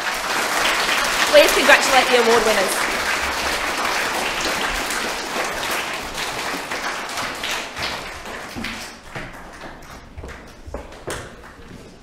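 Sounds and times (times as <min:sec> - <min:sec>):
audience applauding: 0:00.0 - 0:10.5
children's footsteps on hall floor: 0:00.7 - 0:12.0.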